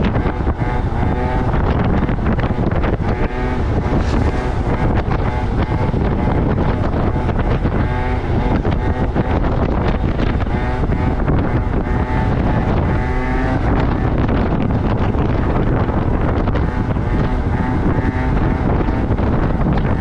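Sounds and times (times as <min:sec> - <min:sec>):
moped engine revving: 0:00.0 - 0:20.0
wind buffeting microphone: 0:00.0 - 0:20.0.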